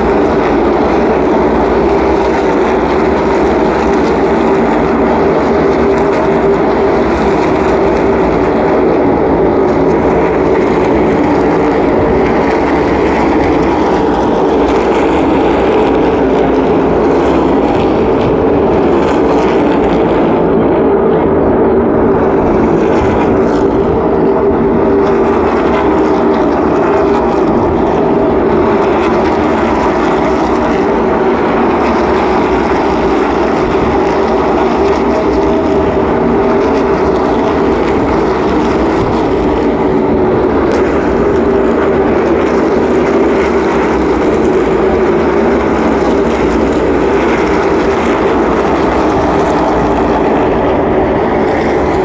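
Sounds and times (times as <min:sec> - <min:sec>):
race car engines roaring: 0:00.0 - 0:52.0.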